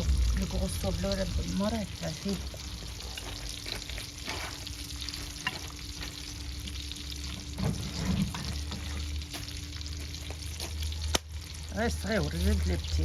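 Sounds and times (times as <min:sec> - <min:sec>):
food sizzling: 0:00.0 - 0:13.0
wood fire crackles: 0:00.0 - 0:13.0.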